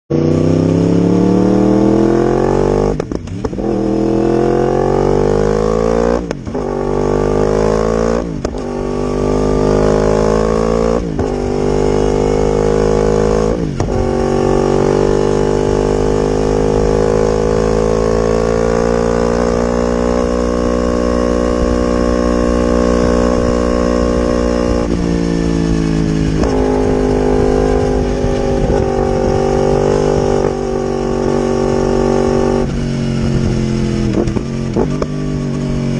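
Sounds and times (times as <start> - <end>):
motorcycle engine accelerating: 0.1 - 35.9.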